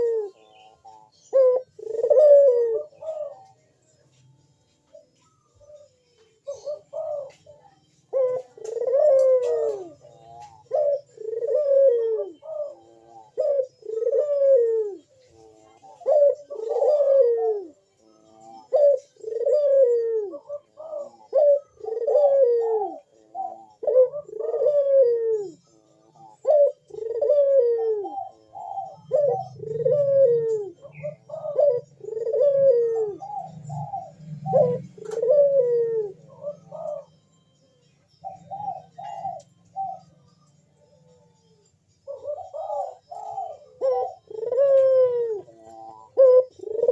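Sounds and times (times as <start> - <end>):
dove cooing: 0.0 - 46.9.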